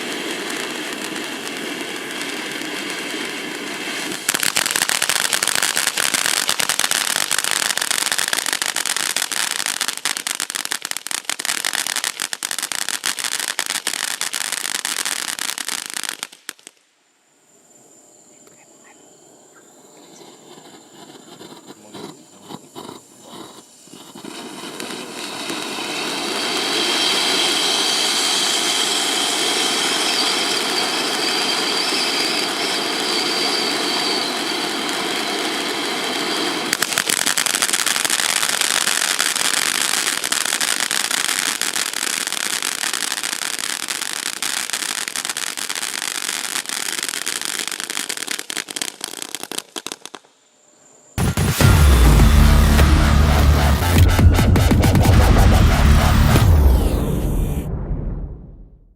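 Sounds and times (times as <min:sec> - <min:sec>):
firework rushing hiss: 0:00.0 - 0:16.9, 0:20.0 - 0:50.3
firework crackling: 0:00.0 - 0:17.0, 0:20.1 - 0:50.3, 0:51.2 - 0:58.9
firework whistling tones: 0:00.0 - 0:17.2, 0:19.5 - 0:58.9.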